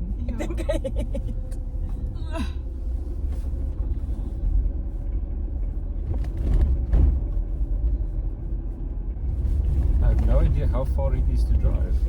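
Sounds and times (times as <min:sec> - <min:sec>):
tyres rumbling on dirt track: 0:00.0 - 0:12.0.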